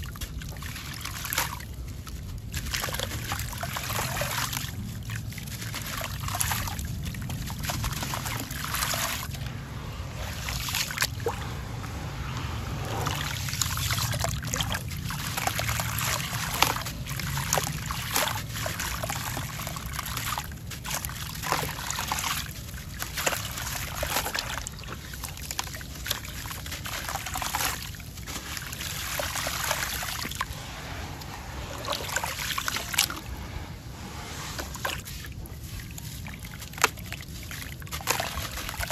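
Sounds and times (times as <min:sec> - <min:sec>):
hands sloshing through water: 0:00.0 - 0:38.9
water trickling and splashing: 0:00.0 - 0:38.9.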